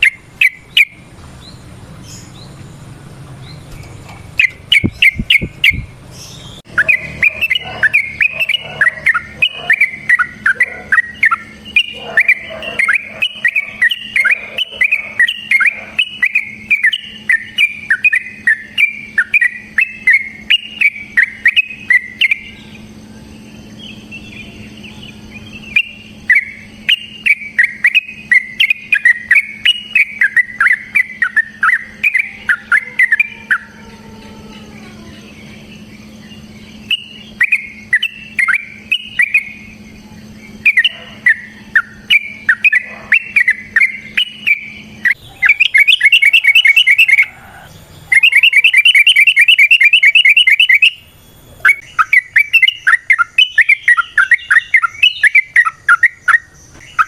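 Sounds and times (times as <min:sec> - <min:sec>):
bulbul singing bubbly chirps: 0:00.0 - 0:02.6, 0:03.4 - 0:33.7, 0:35.2 - 0:57.0.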